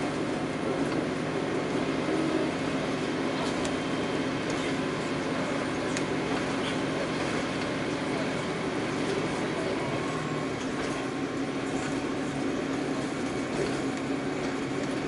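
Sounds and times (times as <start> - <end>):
train engine drone: 0.0 - 15.0.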